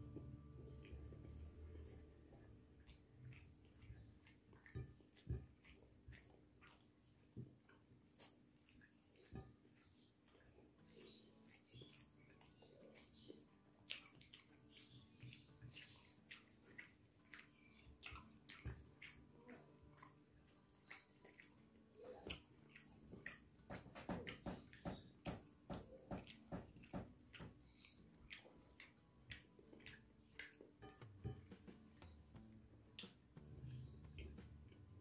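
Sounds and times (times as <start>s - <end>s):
soft chewing: 0.0s - 35.0s.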